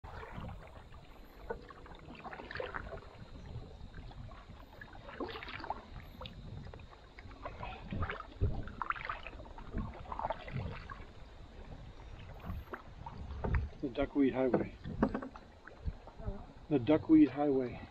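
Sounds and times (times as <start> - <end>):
paddle splashing in water: 0.0 - 17.9.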